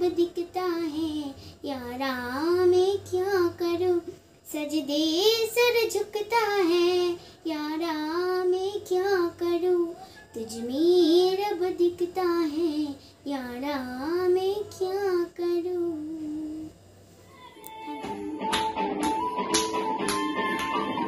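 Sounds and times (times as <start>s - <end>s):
girl singing solo: 0.0s - 18.5s.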